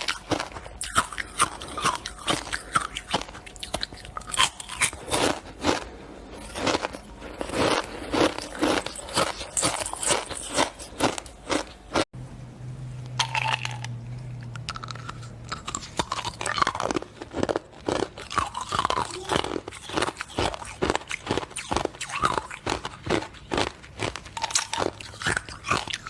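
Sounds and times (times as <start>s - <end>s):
ice crunching while chewed: 0.0s - 12.0s, 13.2s - 26.0s
low steady hum: 0.0s - 26.0s.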